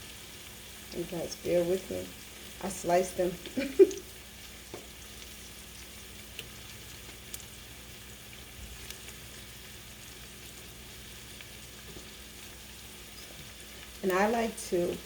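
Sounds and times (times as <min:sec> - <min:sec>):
light frying pops: 0:00.0 - 0:15.0
potatoes sizzling in a pan: 0:00.0 - 0:15.0.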